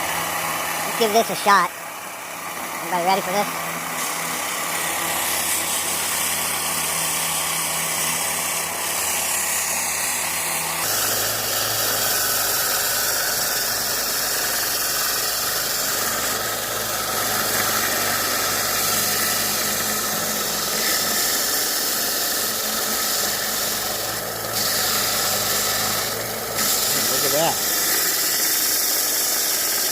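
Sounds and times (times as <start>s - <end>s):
belt sander motor hum: 0.0s - 29.9s
sanding wood: 0.0s - 29.9s.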